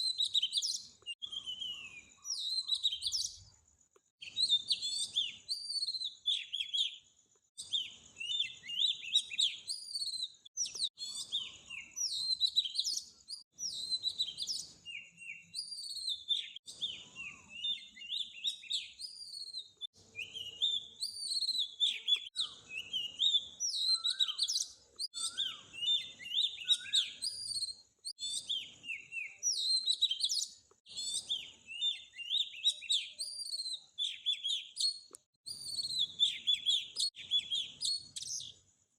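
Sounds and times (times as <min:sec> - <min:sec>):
songbirds chirping and singing: 0:00.0 - 0:38.6.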